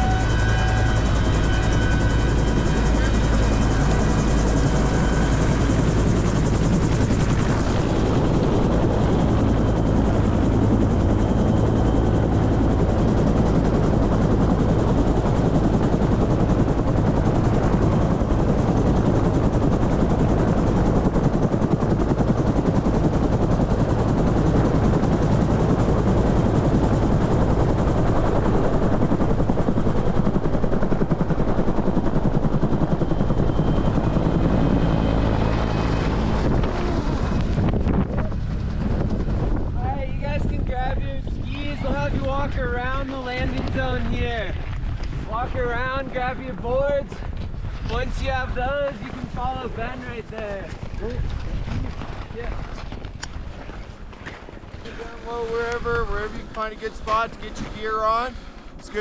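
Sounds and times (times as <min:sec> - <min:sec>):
helicopter rotor and engine: 0:00.0 - 0:59.0.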